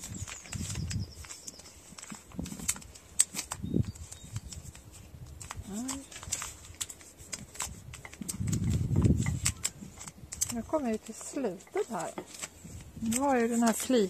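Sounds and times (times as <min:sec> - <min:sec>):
newspaper crinkling and rustling: 0:00.0 - 0:14.0
paper crackles: 0:00.0 - 0:14.0.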